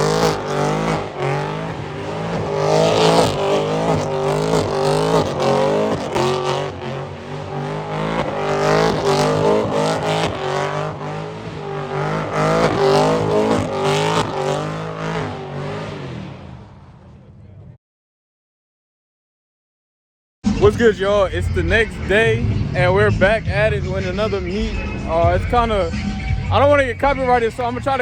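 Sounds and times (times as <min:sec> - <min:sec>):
car engine revving hard: 0:00.0 - 0:17.3, 0:20.7 - 0:28.0
tires squealing: 0:00.0 - 0:17.7, 0:20.5 - 0:28.0.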